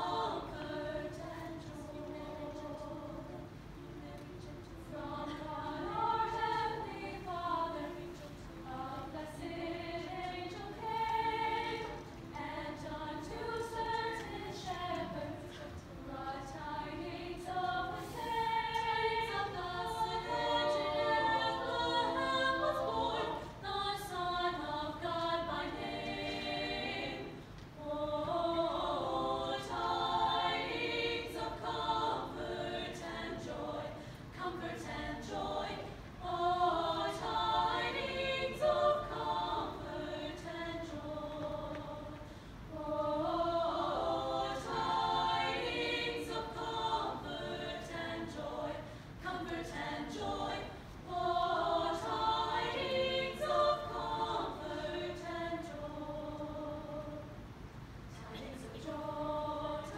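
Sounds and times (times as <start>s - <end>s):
women's vocal group singing in harmony: 0.0s - 59.9s.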